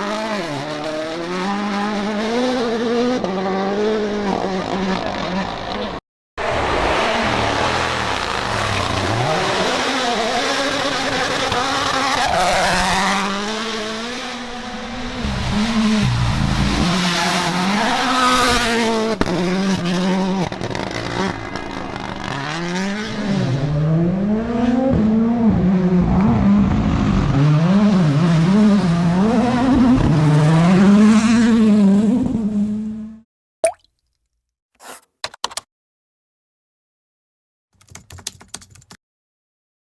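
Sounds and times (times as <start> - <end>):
rally car engine revving: 0.0 - 33.2.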